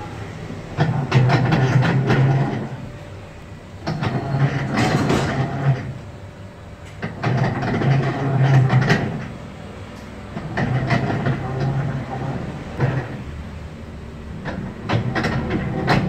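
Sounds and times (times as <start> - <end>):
washing machine agitating: 0.0 - 6.0, 7.0 - 9.5, 10.3 - 16.0.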